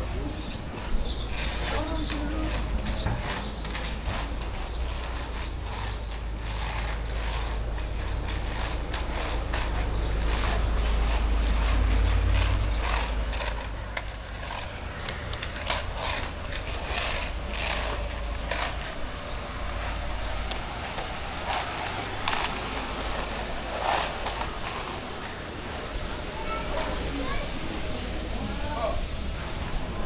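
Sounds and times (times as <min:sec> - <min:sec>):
faint passers-by: 0:00.0 - 0:30.0.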